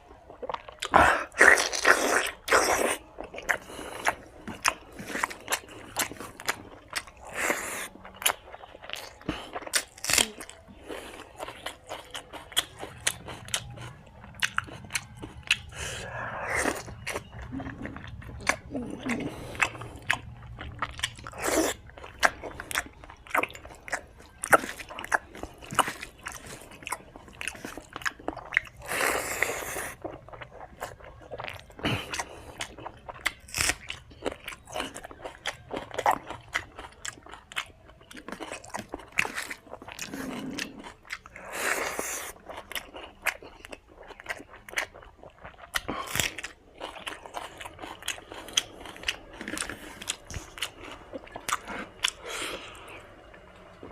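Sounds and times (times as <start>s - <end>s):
close chewing and biting: 0.0s - 53.9s.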